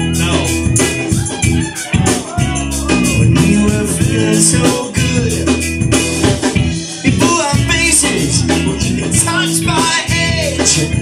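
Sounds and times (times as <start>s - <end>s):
drum kit beat: 0.0s - 11.0s
electric guitars: 0.0s - 11.0s
person singing: 0.0s - 11.0s.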